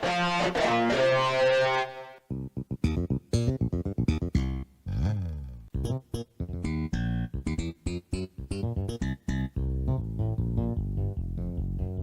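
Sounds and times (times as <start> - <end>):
keyboard playing low bass notes: 2.3 - 12.0.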